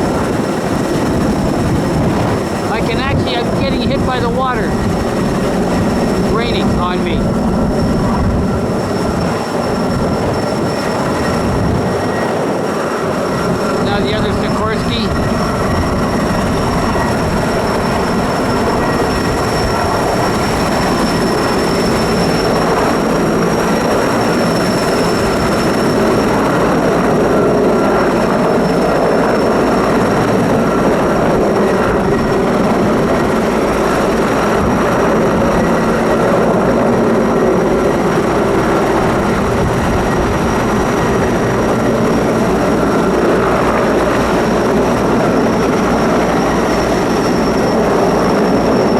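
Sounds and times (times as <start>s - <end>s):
helicopter rotor and engine: 0.0s - 48.9s
high turbine whine: 0.0s - 48.9s.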